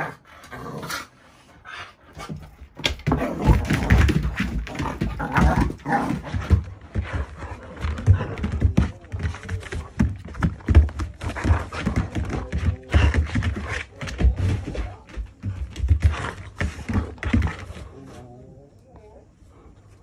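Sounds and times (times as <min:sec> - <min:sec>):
dogs scuffling and panting: 0:01.8 - 0:18.3.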